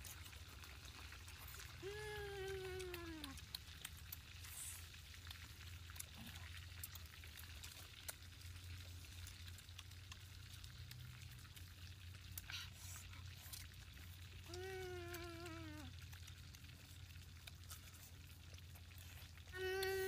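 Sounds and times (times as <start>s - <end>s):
low steady hum: 0.0s - 20.0s
people chewing: 0.0s - 20.0s.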